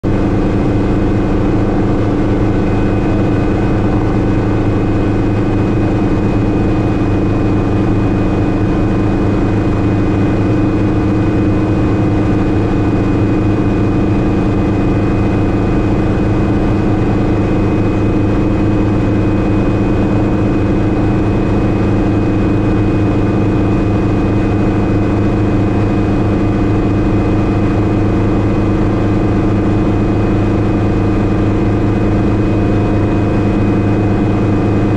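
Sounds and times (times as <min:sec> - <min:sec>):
helicopter engine and rotor drone: 0:00.0 - 0:34.9
thin steady whine: 0:00.0 - 0:34.9.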